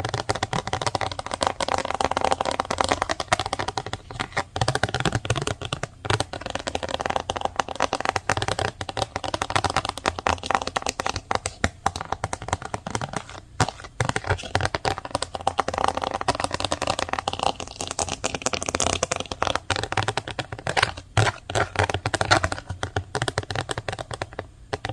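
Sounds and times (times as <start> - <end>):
fast typing on keyboard: 0.0 - 24.9.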